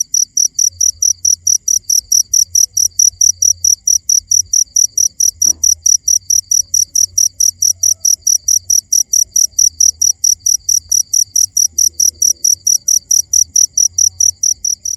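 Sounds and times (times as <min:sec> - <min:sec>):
cricket chirping: 0:00.0 - 0:14.9.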